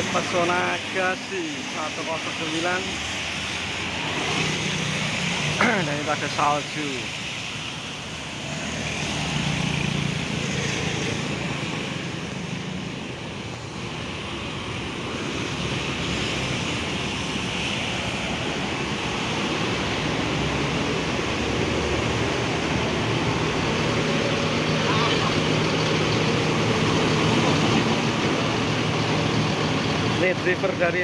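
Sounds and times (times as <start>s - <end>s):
bus engine humming: 0.0s - 31.0s.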